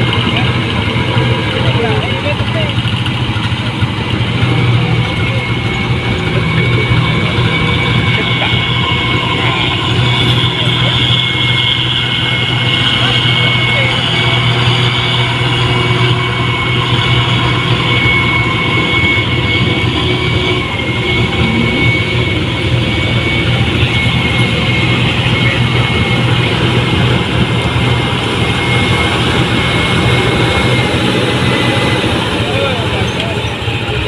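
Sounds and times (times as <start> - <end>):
diesel engine running under load: 0.0 - 34.0
high whine: 0.0 - 34.0.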